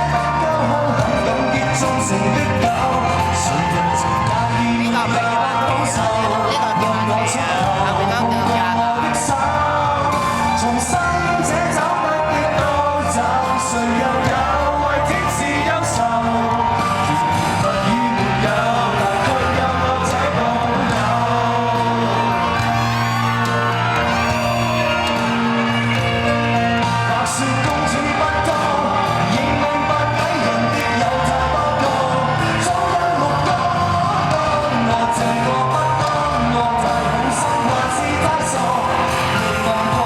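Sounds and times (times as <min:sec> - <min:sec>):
live band music: 0:00.0 - 0:40.0
person singing: 0:00.0 - 0:40.0.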